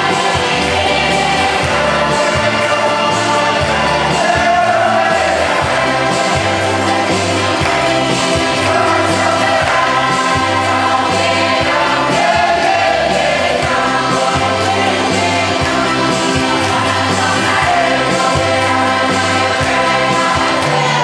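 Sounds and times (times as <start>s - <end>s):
bass line and beat: 0.0s - 21.0s
voices singing in harmony: 0.0s - 21.0s.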